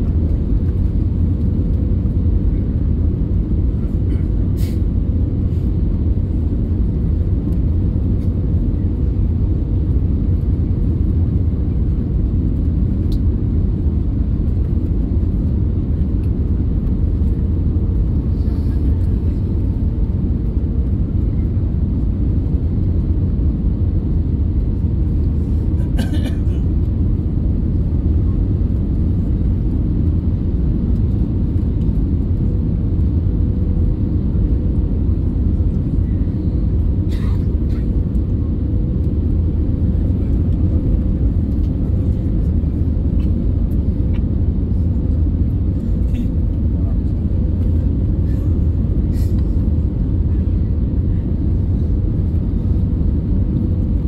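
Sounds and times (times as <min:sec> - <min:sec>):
engine and airflow rumble: 0:00.0 - 0:54.0.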